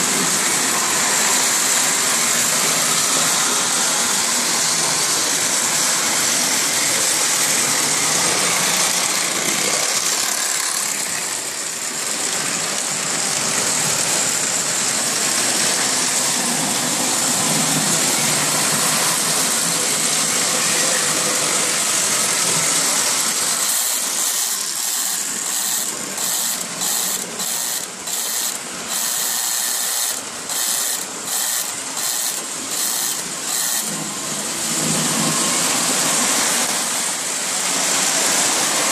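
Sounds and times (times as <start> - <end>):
model trains whirring on track: 0.0 - 38.9.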